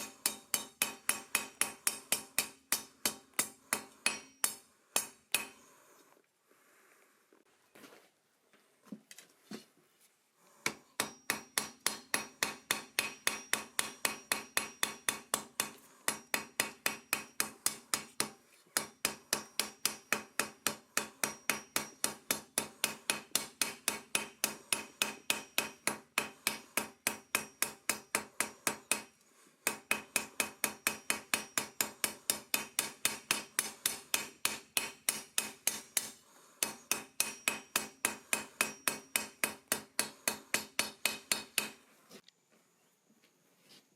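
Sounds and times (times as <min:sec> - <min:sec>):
hammer striking steel on anvil: 0:00.0 - 0:05.6, 0:10.6 - 0:41.8.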